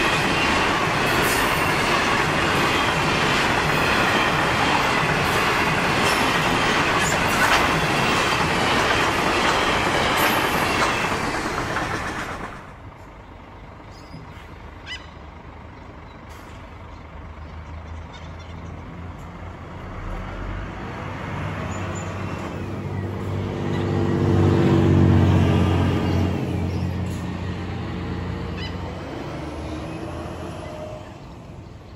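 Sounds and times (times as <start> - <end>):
freight train rumbling past: 0.0 - 31.9
road traffic: 0.0 - 31.9.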